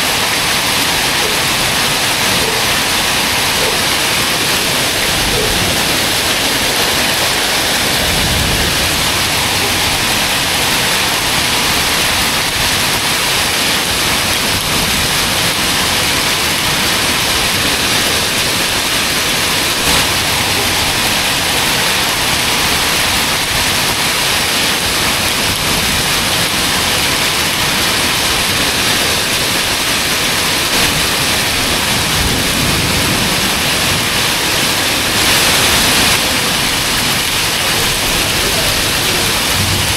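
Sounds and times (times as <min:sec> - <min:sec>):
heavy rain and hail: 0:00.0 - 0:39.9.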